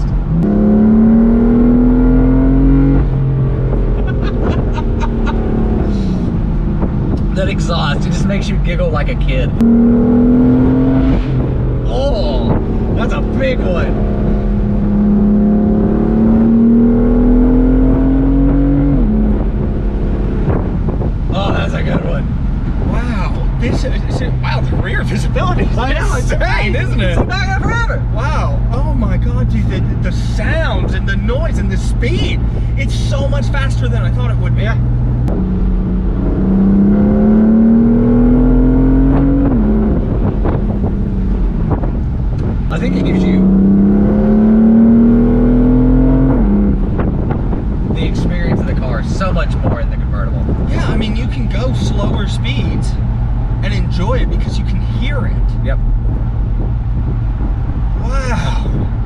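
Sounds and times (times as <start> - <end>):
car engine accelerating: 0.0 - 59.0
exhaust crackles: 0.0 - 59.0.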